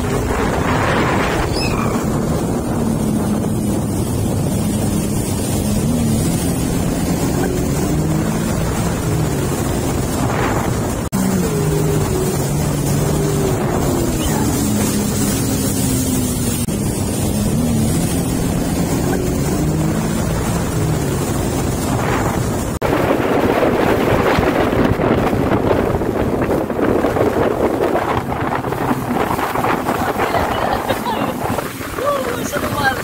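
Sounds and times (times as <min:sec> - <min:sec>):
jet ski engine running: 0:00.0 - 0:33.0
rushing water: 0:00.0 - 0:33.0
wind on microphone: 0:00.0 - 0:33.0.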